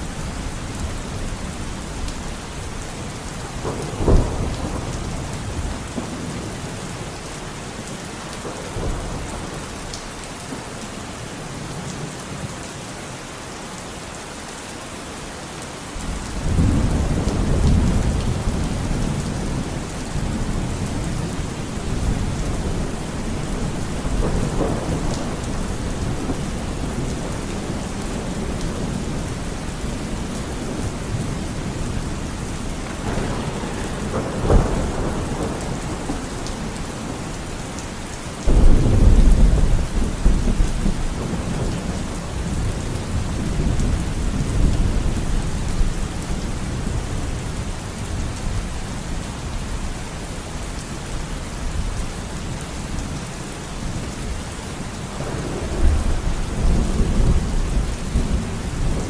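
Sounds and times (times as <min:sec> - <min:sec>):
thunder rumbling and cracking: 0:00.0 - 0:10.8, 0:16.0 - 0:50.0, 0:53.8 - 0:59.0
steady rain: 0:00.0 - 0:59.0.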